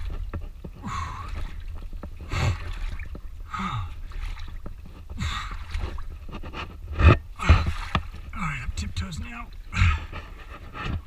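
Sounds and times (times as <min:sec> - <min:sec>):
water sloshing around wading person: 0:00.0 - 0:11.0.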